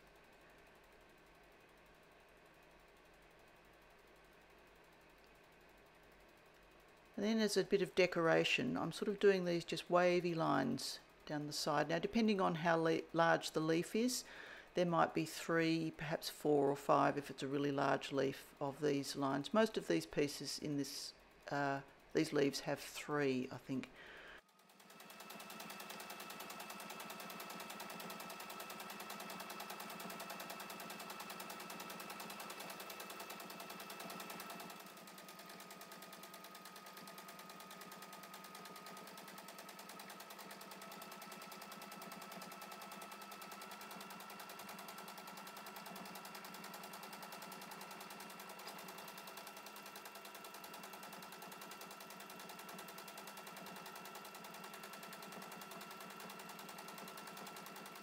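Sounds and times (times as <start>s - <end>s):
sewing machine running: 0.2s - 15.9s, 24.1s - 58.0s.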